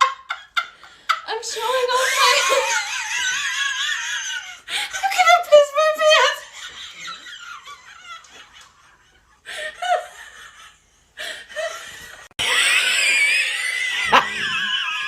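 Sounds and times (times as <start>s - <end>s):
people laughing and giggling: 0.0s - 5.2s, 6.4s - 13.0s, 13.9s - 15.0s.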